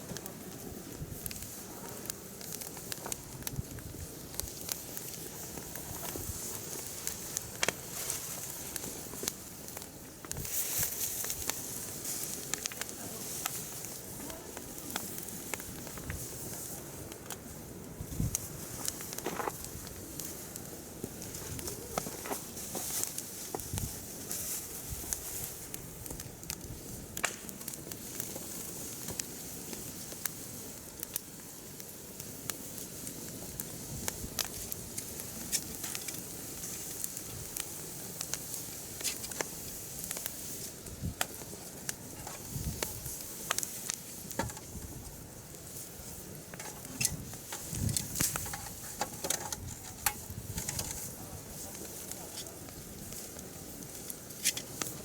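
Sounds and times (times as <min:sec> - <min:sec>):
fire crackling and popping: 0:00.0 - 0:55.0
hiss of flames: 0:00.0 - 0:55.0.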